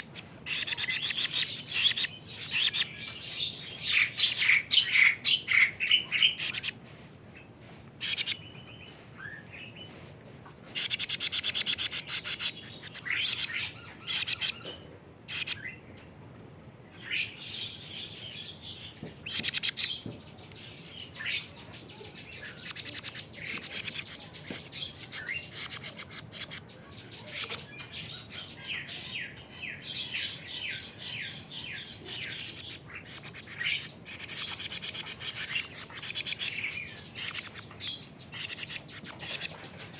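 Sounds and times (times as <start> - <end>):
young cuckoo chattering calls: 0.0 - 6.8, 8.0 - 9.8, 10.6 - 15.8, 17.0 - 39.9.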